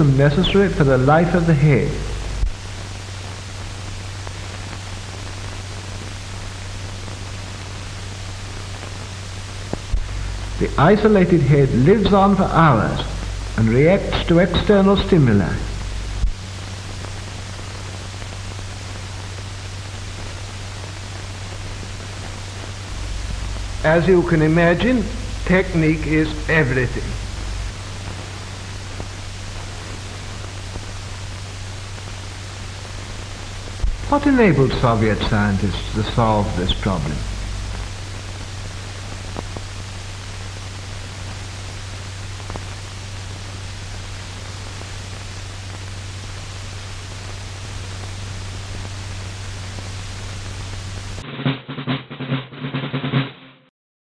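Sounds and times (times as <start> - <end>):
constant low hum: 0.0 - 51.2
steady hiss: 0.0 - 51.2.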